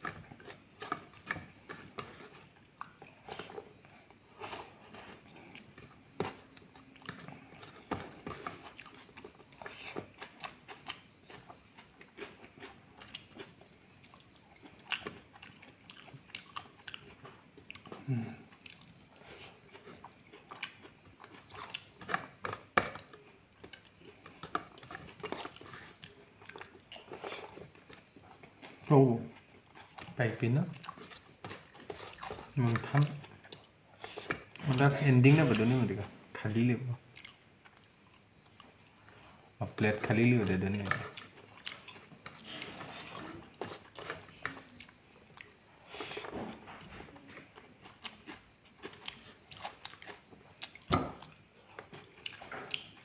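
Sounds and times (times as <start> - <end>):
chewing and lip smacking: 0.0 - 28.8, 29.4 - 34.9, 37.1 - 39.4, 40.7 - 46.3, 47.2 - 53.0.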